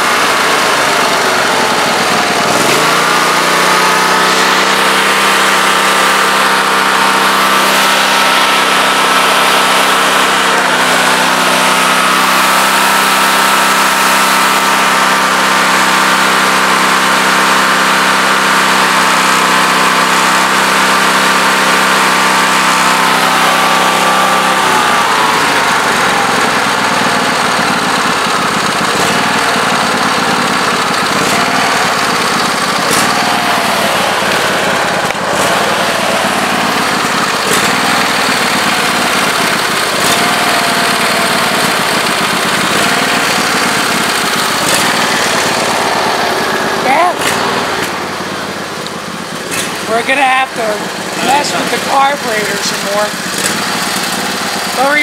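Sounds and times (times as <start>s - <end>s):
riding mower engine running: 0.0s - 55.0s.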